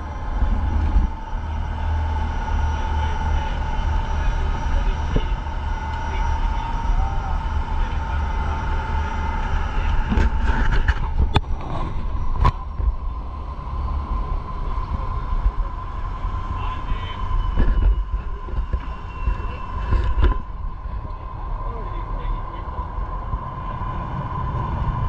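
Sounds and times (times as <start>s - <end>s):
boat engine rumbling: 0.0s - 25.0s.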